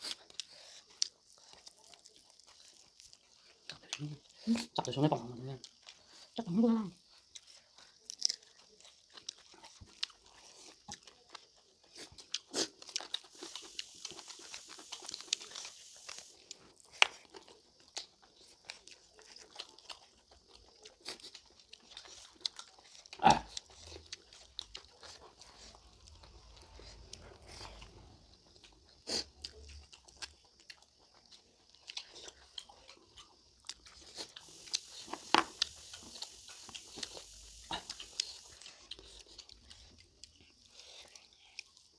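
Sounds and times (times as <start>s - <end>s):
people chewing and smacking: 0.0s - 41.9s.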